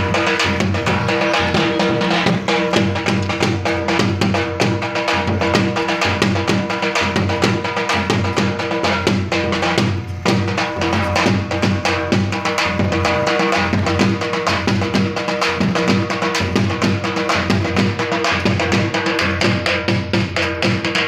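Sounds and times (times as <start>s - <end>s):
drums in a fast rhythm: 0.0s - 21.0s.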